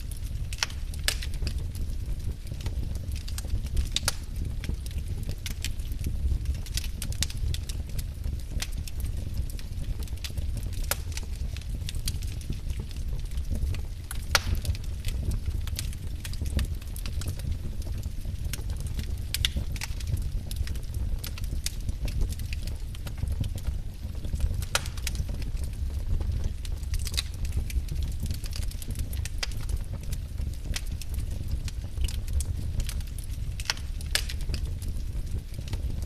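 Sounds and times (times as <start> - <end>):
logs crackling and popping: 0.0 - 36.0
wood fire rumbling: 0.0 - 36.0.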